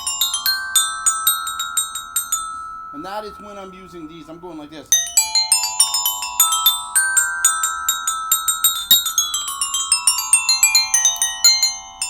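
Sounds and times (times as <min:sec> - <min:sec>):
xylophone notes: 0:00.0 - 0:12.0.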